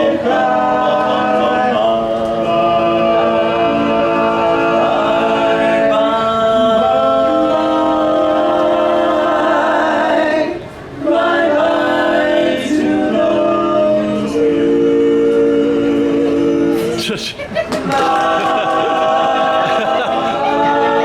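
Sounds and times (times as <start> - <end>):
vocal group singing in harmony: 0.0 - 21.0.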